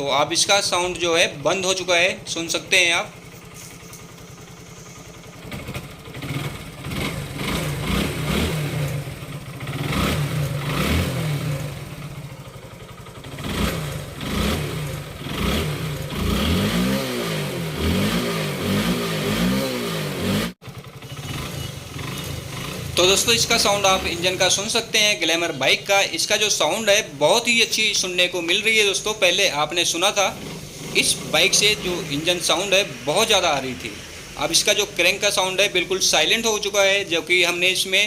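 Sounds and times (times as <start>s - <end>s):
motorcycle engine idling and revving: 0.0s - 38.0s.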